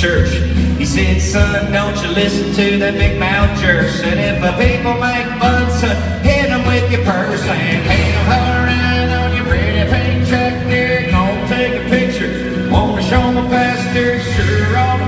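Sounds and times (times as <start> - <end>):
electric guitar strumming: 0.0 - 15.0
man singing: 0.0 - 15.0.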